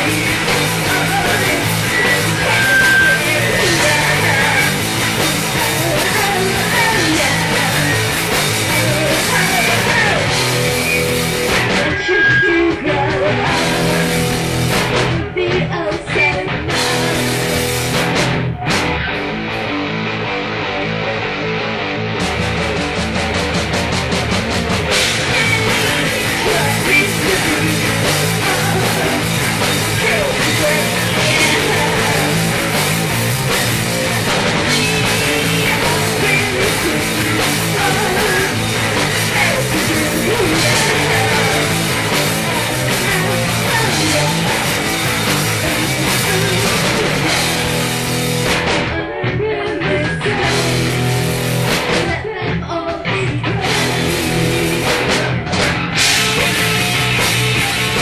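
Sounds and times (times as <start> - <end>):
bass guitar: 0.0 - 58.0
electric guitar: 0.0 - 58.0.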